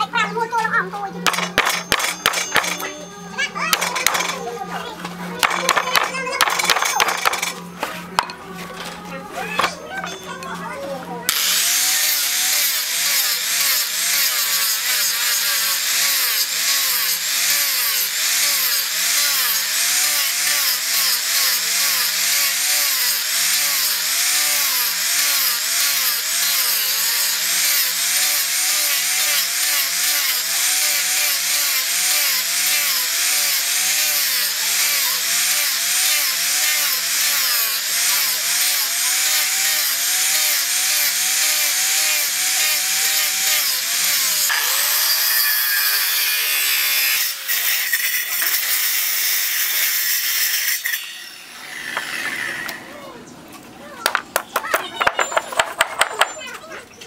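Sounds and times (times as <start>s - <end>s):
angle grinder sanding wood: 3.7s - 8.6s, 11.3s - 52.9s.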